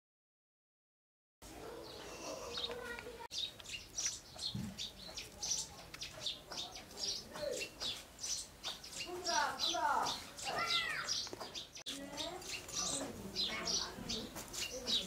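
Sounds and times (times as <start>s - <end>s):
small birds chirping: 1.4s - 15.0s.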